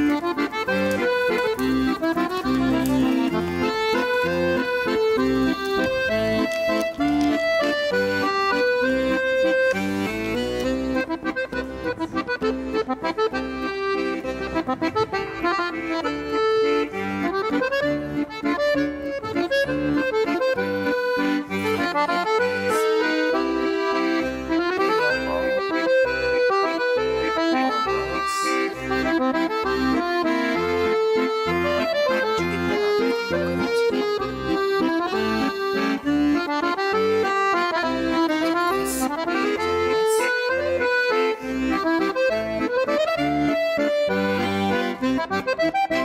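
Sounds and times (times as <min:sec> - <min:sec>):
accordion tune with bass beat: 0:00.0 - 0:46.0.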